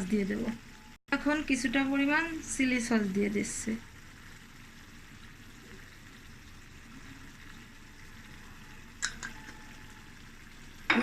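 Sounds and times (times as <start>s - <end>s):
curry simmering in a pan: 0.1s - 10.9s.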